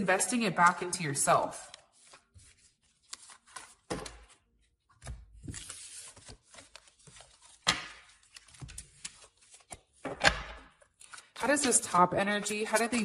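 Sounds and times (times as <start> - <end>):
cards rustling while shuffled: 1.7 - 10.0, 10.9 - 13.0.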